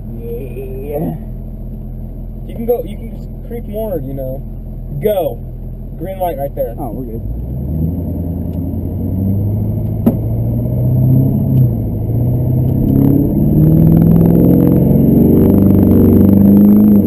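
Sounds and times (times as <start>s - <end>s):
diesel engine accelerating: 0.0s - 17.0s.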